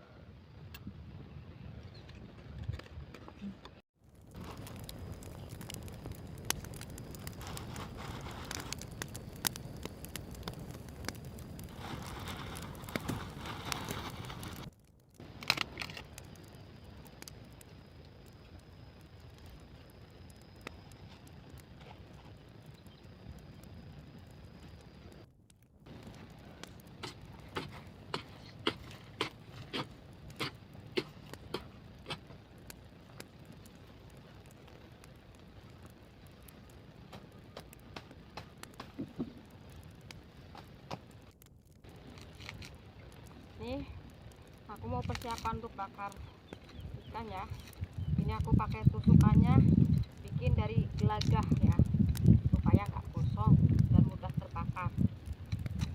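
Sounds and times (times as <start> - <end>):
campfire crackling: 0.0 - 55.9
low outdoor background: 0.0 - 55.9.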